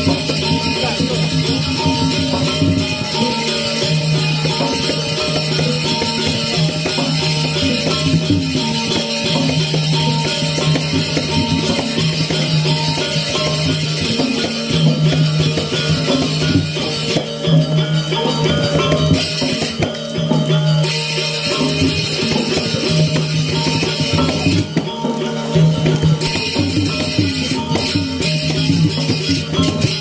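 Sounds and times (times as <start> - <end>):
gamelan playing: 0.0 - 30.0.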